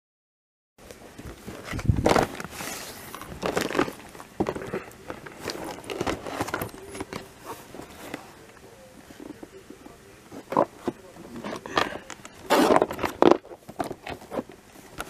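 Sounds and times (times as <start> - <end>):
cardboard box handling noise: 0.8 - 8.5, 9.1 - 15.0.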